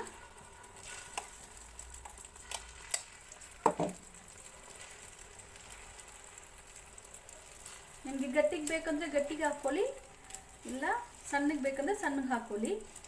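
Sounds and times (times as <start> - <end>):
batter sizzling on hot pan: 0.0 - 13.0.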